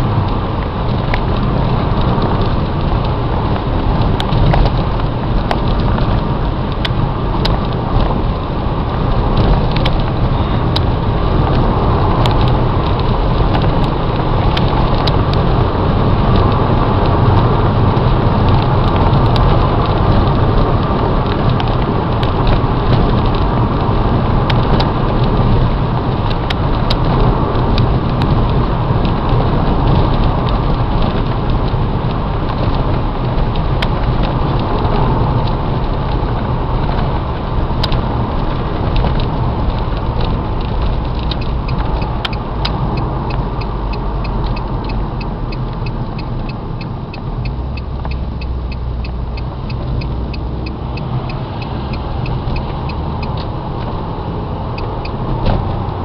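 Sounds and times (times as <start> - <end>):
car engine tyre and wind rumble: 0.0 - 56.0.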